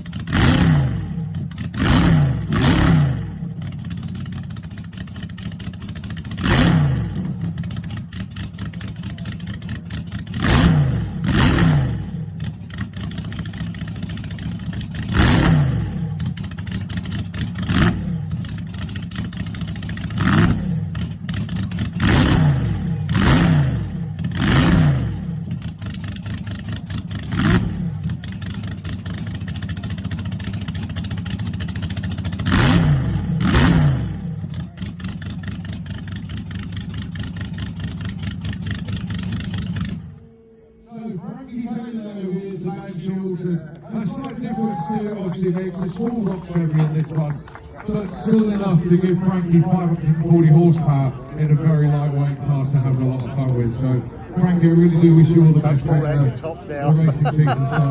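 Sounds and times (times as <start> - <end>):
engine idling lumpily: 0.0 - 57.9
engine throttle blips: 0.0 - 57.9.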